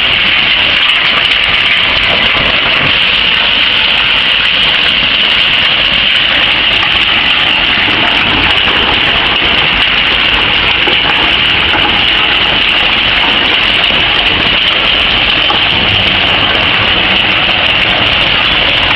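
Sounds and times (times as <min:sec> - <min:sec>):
conveyors running: 0:00.0 - 0:18.9
scrap shredding machinery: 0:00.0 - 0:18.9
strong high hiss: 0:00.0 - 0:18.9.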